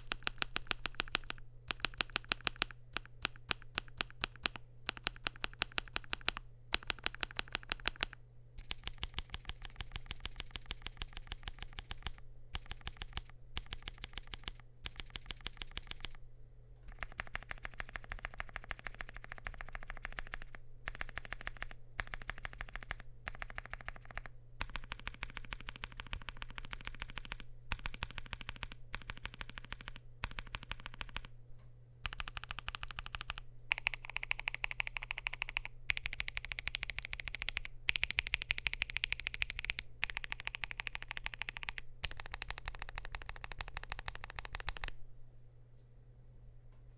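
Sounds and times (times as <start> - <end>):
mechanical keyboard clacking: 0.0 - 16.2, 16.9 - 31.3, 32.0 - 45.0.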